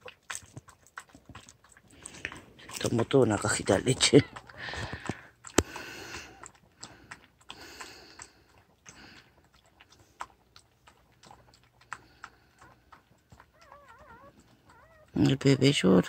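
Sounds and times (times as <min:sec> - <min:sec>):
dog lapping from bowl: 0:00.0 - 0:16.0.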